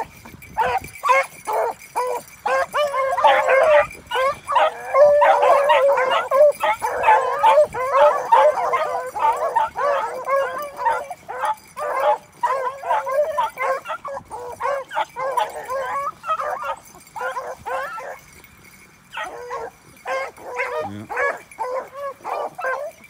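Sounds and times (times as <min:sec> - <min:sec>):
dogs baying and yelping: 0:00.0 - 0:23.0.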